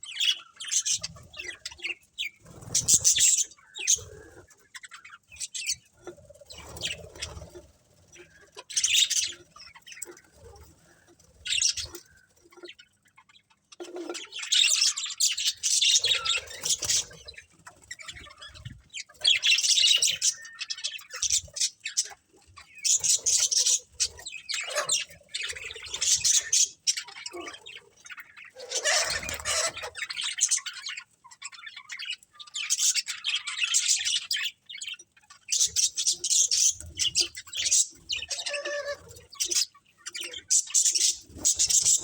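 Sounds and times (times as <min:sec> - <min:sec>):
budgerigars chirping and chattering: 0:00.0 - 0:42.0.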